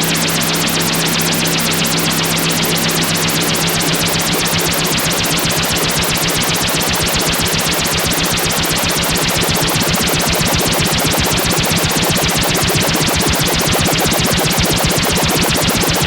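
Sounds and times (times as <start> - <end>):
synthesized helicopter rotor: 0.0 - 16.0.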